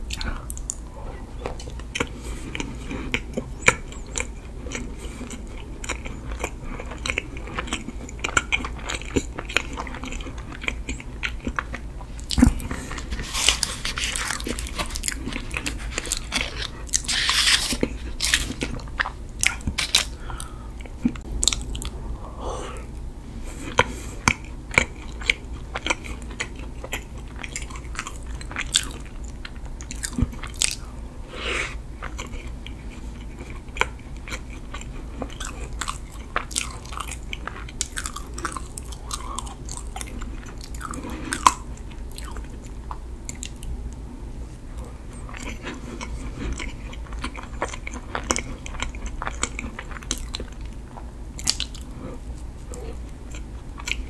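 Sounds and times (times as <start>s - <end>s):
moist chewing and mouth sounds: 0.0s - 22.0s, 22.9s - 30.9s, 32.0s - 44.0s, 44.7s - 54.0s.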